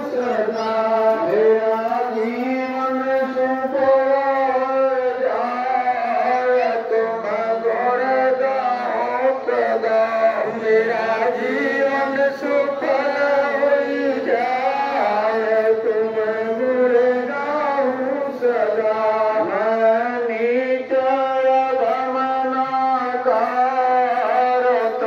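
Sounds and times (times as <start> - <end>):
group chanting a devotional song: 0.0 - 25.0.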